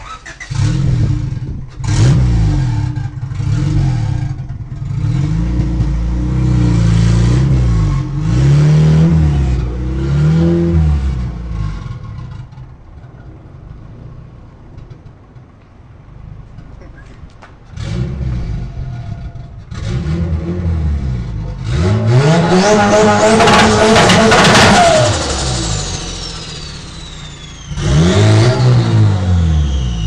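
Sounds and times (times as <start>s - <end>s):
car engine revving: 0.0s - 16.8s, 17.6s - 30.0s.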